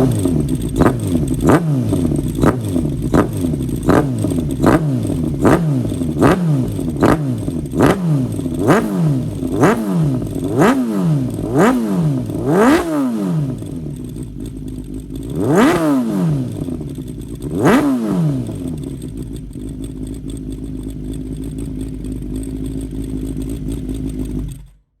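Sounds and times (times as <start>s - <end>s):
motorcycle engine throttle blips: 0.0s - 24.8s
motorcycle engine idling: 0.0s - 25.0s.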